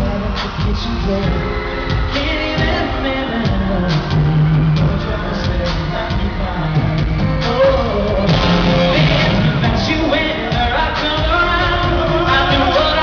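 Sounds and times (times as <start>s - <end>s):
full band playing: 0.0s - 13.0s
man singing live pop song: 0.0s - 13.0s.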